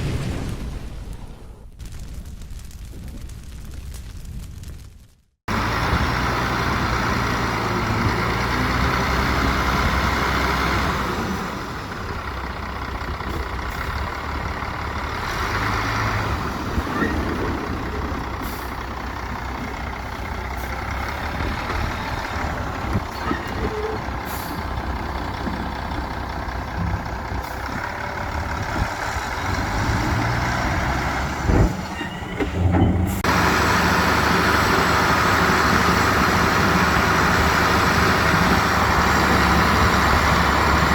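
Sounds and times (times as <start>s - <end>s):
heavy machinery diesel engines: 5.5s - 40.9s.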